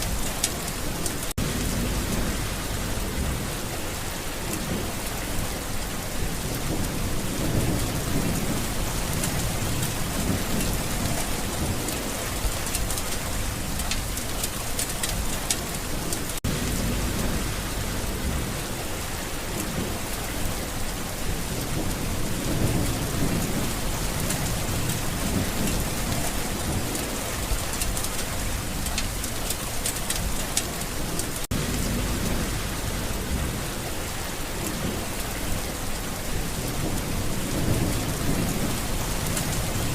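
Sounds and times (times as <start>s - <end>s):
low rolling thunder: 0.0s - 39.9s
steady rain: 0.0s - 39.9s.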